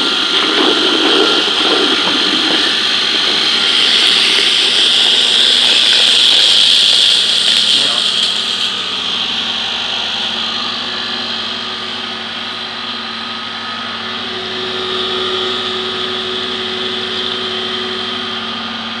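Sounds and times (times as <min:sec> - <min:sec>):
grinding machine motor whine: 0:00.0 - 0:19.0.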